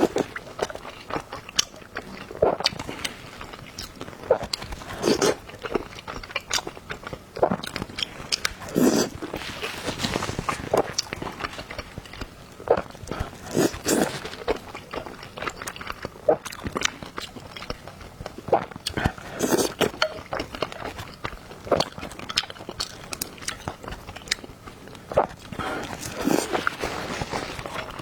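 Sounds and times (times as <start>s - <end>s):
person chewing and biting: 0.0s - 24.5s, 25.1s - 28.0s.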